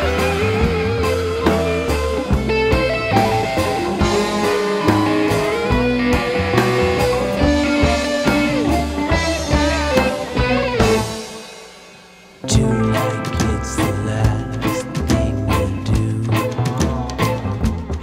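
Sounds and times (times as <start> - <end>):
sustained melody line: 0.0 - 11.6, 12.4 - 18.0
bass: 0.0 - 18.0
drum kit beat: 0.0 - 18.0
guitar: 0.0 - 18.0.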